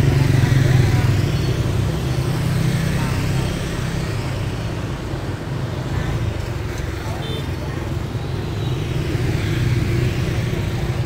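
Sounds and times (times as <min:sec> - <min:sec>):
faint voices: 0:00.0 - 0:11.0
motorbikes passing: 0:00.0 - 0:11.0.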